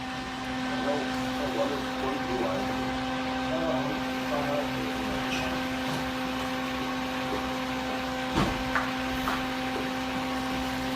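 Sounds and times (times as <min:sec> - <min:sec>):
electric fan humming: 0:00.0 - 0:10.9.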